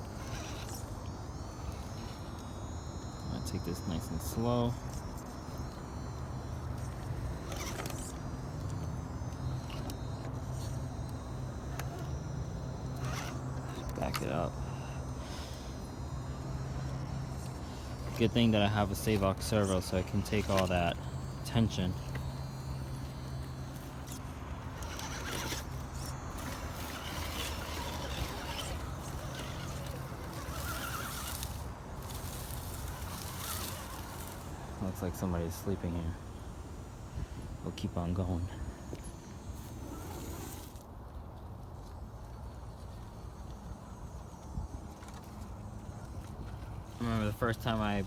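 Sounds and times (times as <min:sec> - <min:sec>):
electric motor and gears whirring: 0:00.0 - 0:48.0
tires and chassis scraping on rocks: 0:00.0 - 0:48.0.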